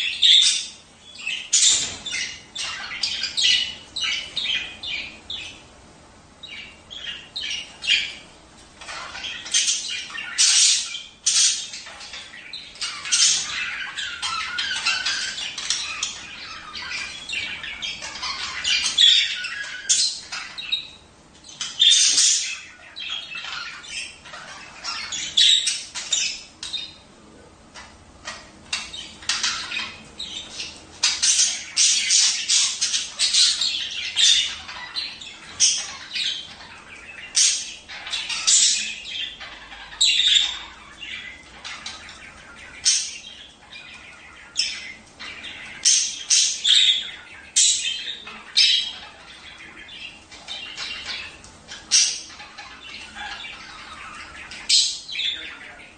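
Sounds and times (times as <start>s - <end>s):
budgerigars chattering and squawking: 0.0s - 5.8s, 6.4s - 55.9s.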